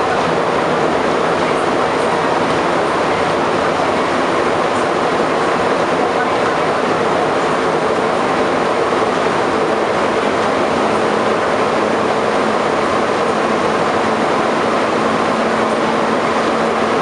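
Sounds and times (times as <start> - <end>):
metro car rolling: 0.0 - 17.0.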